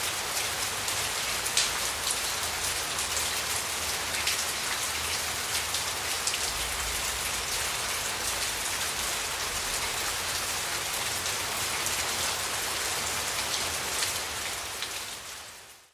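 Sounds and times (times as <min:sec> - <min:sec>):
heavy rain falling: 0:00.0 - 0:15.7.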